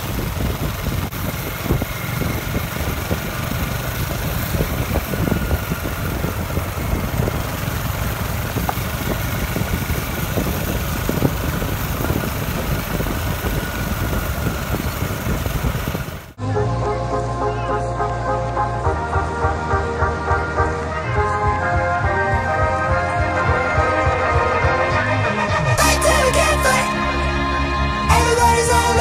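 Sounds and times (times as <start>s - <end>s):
road and wind noise: 0.0s - 29.0s
vehicle engine running: 0.0s - 29.0s.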